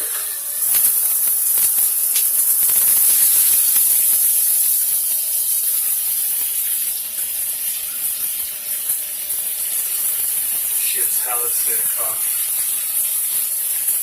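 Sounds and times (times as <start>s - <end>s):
shower head spraying water: 0.0s - 14.0s.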